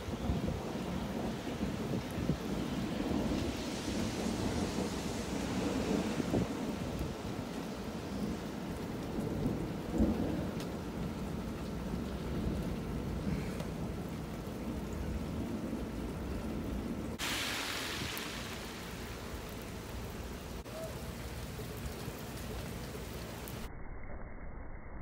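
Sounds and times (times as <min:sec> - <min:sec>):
falling rain hiss: 0:00.0 - 0:23.7
thunder rumbling: 0:00.0 - 0:23.7.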